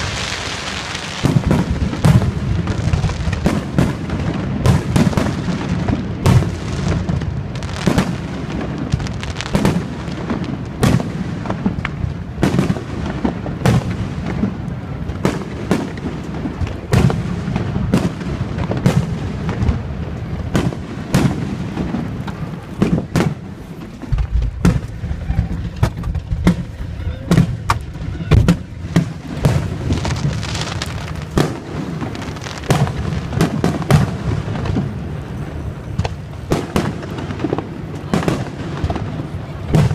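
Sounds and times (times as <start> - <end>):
continuous low rumble: 0.0 - 39.9.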